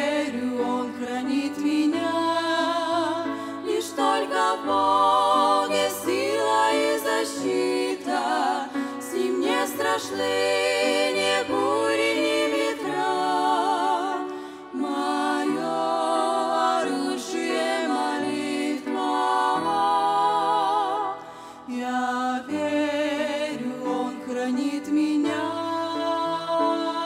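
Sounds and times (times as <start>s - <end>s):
grand piano accompaniment: 0.0s - 27.0s
women singing in harmony: 0.0s - 27.0s.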